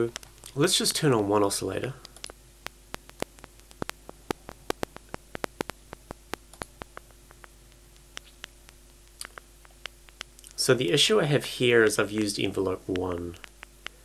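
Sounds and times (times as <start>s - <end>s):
faint steady hum: 0.0s - 14.0s
synthesized crackling clicks: 0.0s - 14.0s.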